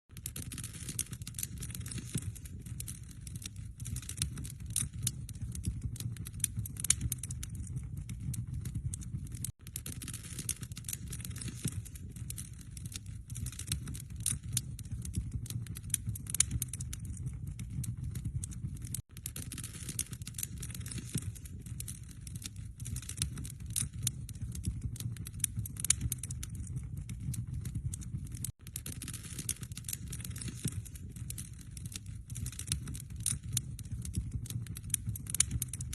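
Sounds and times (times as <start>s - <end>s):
fire crackling and snapping: 0.1s - 35.9s
low rumble of flames: 0.1s - 35.9s.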